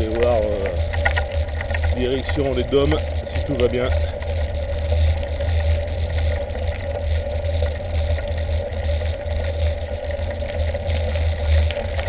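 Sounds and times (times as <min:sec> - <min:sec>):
bike tyres rumbling on pavement: 0:00.0 - 0:12.0
constant hum: 0:00.0 - 0:12.0.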